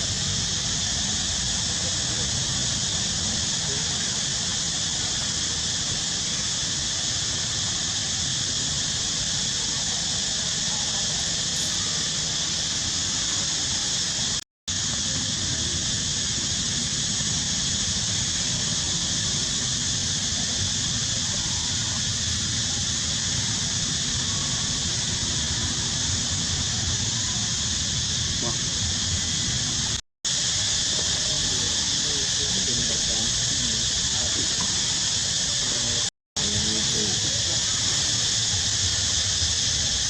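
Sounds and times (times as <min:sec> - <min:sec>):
high-pitched outdoor hiss: 0:00.0 - 0:40.0.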